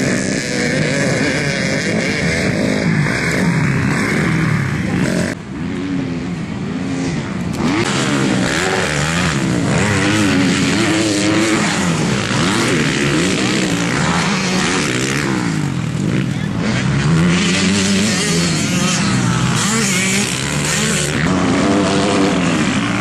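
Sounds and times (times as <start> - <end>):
dirt bikes revving: 0.0 - 23.0.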